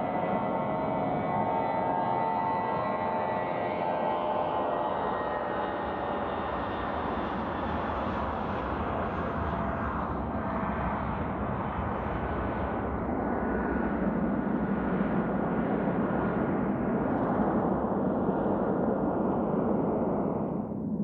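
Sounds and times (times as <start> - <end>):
airliner engines taking off: 0.0 - 17.1.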